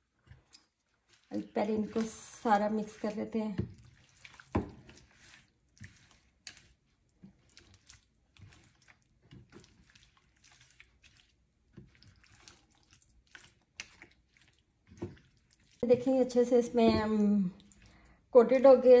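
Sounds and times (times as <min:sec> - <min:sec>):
wet squelching of stirred chicken: 0:00.0 - 0:19.0.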